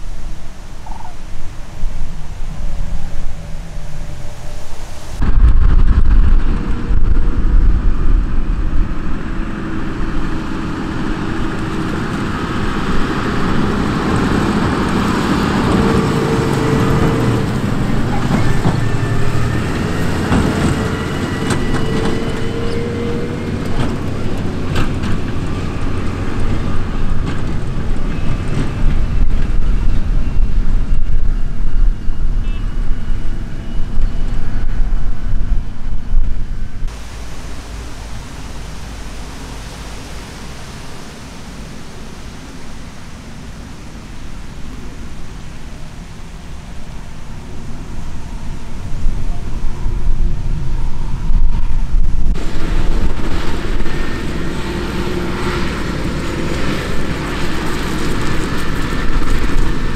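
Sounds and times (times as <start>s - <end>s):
tractor engine driving past: 5.2s - 31.4s, 36.4s - 59.9s.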